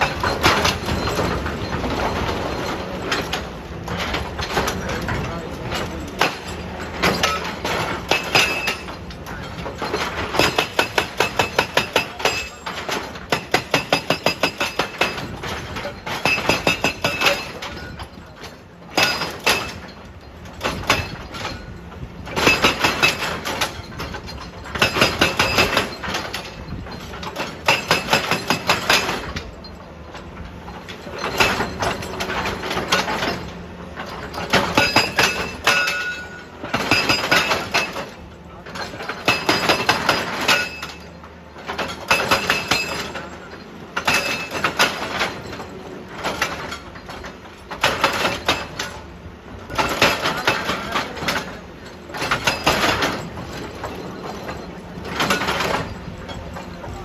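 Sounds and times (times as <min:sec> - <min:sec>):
hydraulic breaker hammering rock: 0:00.0 - 0:57.0.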